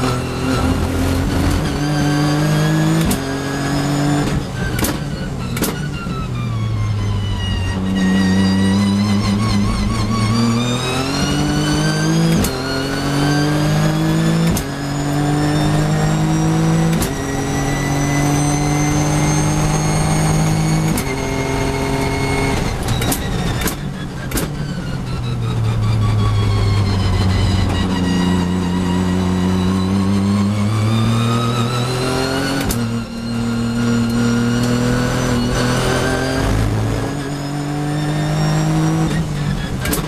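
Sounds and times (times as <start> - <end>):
race car engine accelerating: 0.0 - 40.0.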